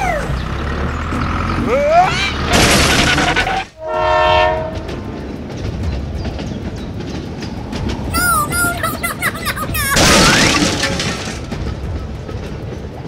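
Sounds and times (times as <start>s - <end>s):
toy train rumbling on track: 0.0s - 13.0s.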